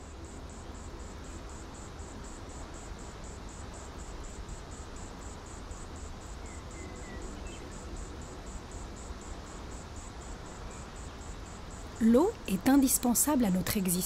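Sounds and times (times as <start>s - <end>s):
high insect chirp: 0.0s - 14.0s.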